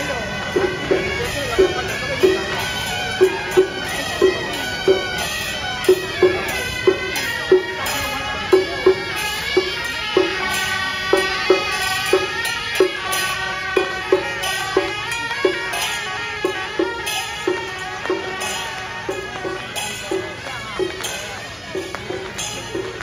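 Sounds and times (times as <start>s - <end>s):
drum strokes: 0.0s - 23.0s
horns playing a melody: 0.0s - 23.0s.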